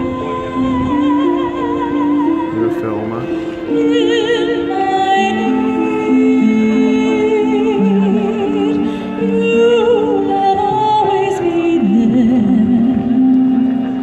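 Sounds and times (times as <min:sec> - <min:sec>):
woman singing a slow ballad: 0:00.0 - 0:02.6, 0:03.3 - 0:14.0
held accompaniment notes: 0:00.0 - 0:14.0.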